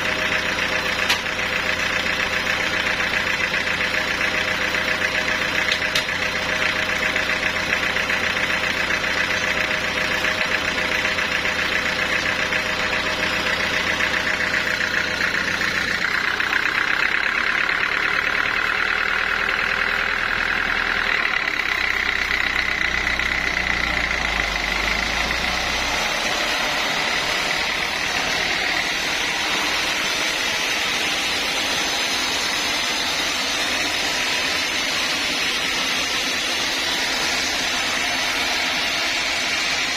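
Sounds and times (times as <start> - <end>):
engine low drone: 0.0 - 39.9
sawmill saw cutting wood: 0.0 - 39.9.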